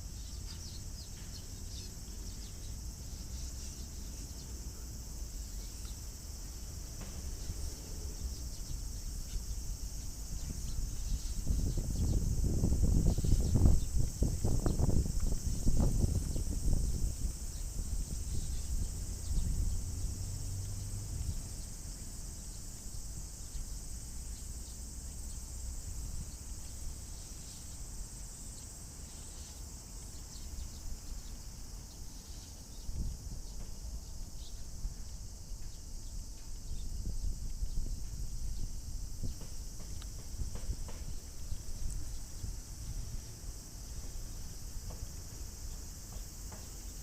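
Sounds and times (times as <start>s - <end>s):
cicadas droning: 0.0s - 47.0s.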